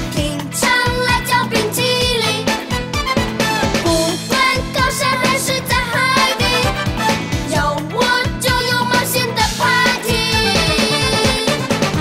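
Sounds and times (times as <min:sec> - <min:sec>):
steady drum beat: 0:00.0 - 0:12.0
upbeat children's pop song: 0:00.0 - 0:12.0.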